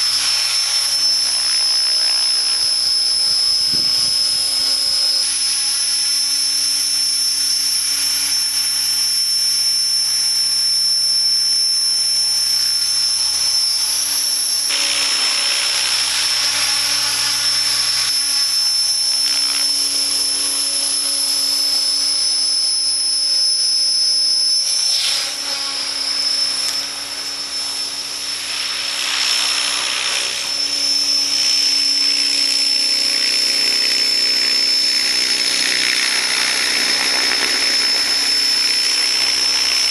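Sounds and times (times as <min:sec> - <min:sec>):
rc helicopter whine: 0:00.0 - 0:39.9
rotor blades rushing: 0:00.0 - 0:39.9.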